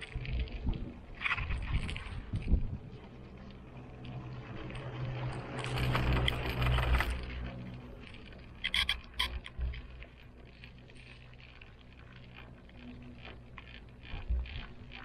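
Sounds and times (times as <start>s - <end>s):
cable car low hum: 0.0s - 15.0s.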